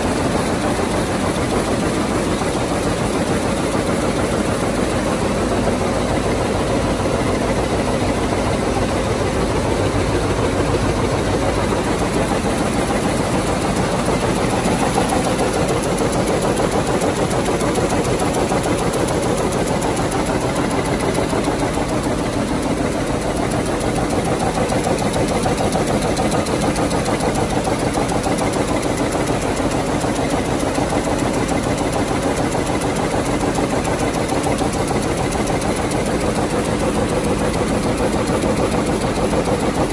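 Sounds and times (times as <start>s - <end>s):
loom mechanical clatter: 0.0s - 39.9s.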